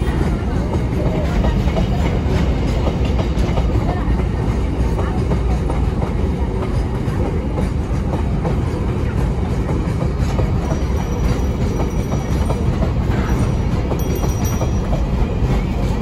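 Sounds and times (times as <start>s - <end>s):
train wheels rumbling on rails: 0.0s - 16.0s
wheels clacking over rail joints: 0.0s - 16.0s.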